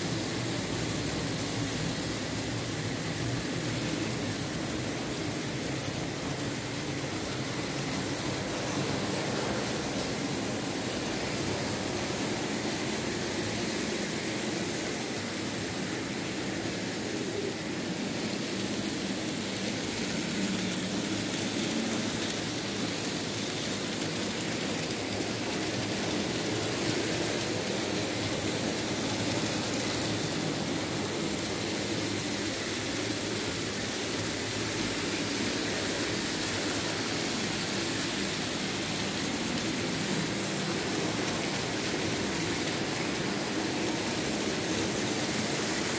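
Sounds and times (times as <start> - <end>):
model train running on track: 0.0 - 45.9.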